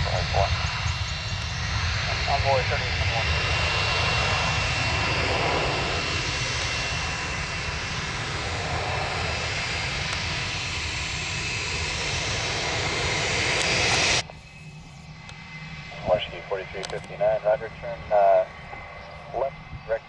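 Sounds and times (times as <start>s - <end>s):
high whine: 0.0s - 20.0s
jet engines running: 0.0s - 20.0s.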